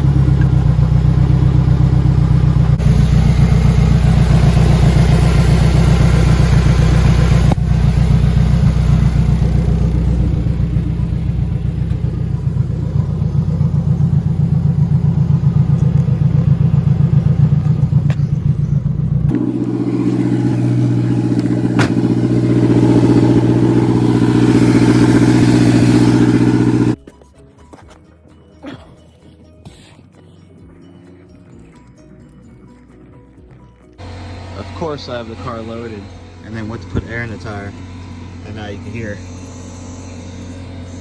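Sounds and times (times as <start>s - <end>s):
car engine running: 0.0s - 27.0s, 34.0s - 41.0s.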